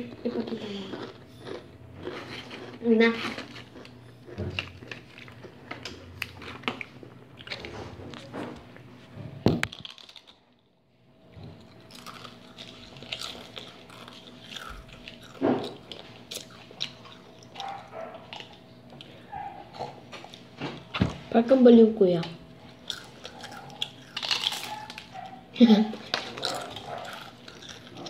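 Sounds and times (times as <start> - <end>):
crisps crunching: 0.2 - 8.9, 9.5 - 10.6, 11.6 - 20.5, 22.6 - 28.0.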